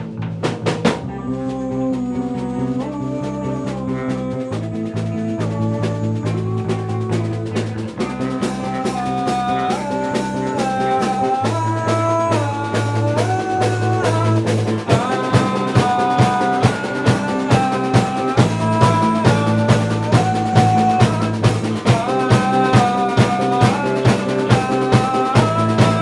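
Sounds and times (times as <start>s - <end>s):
drum beat: 0.0s - 2.0s, 3.8s - 26.0s
instrumental band music: 0.0s - 26.0s.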